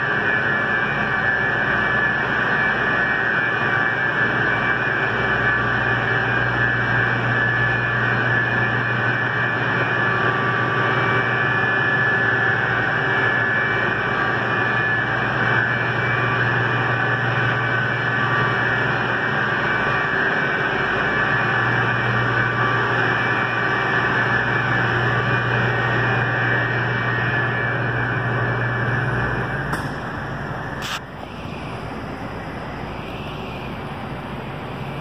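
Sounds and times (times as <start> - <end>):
machinery hum with high whine: 0.0 - 35.0.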